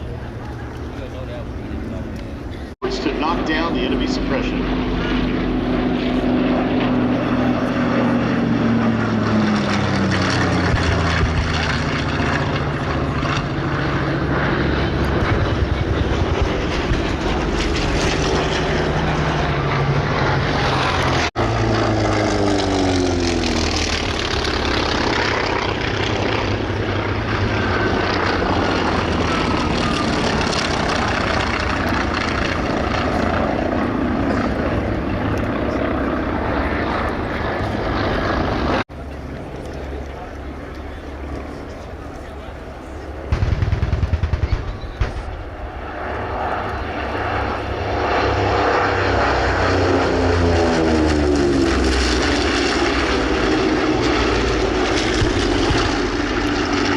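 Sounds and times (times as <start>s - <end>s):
propeller planes flying past: 0.0s - 56.9s.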